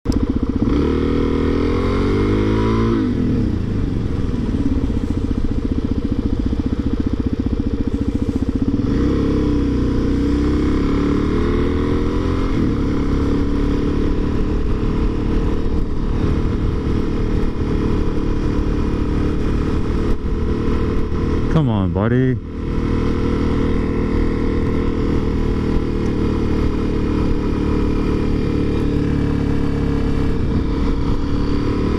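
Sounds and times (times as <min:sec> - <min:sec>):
motorcycle engine accelerating: 0:00.1 - 0:31.9.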